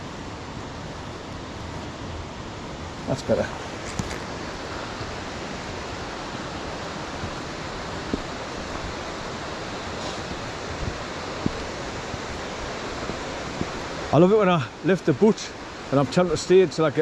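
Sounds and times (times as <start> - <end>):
stream rapids rushing: 0.0 - 17.0.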